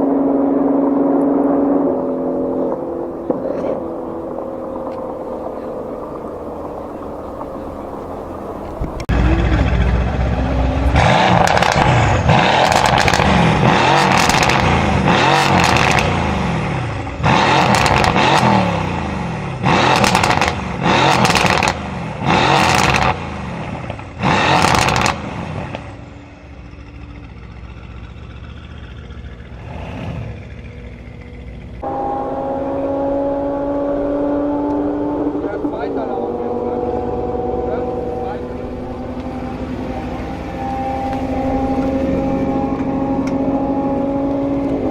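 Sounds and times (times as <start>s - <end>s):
car engine idling: 0.0s - 44.9s
car engine revving: 0.0s - 44.9s.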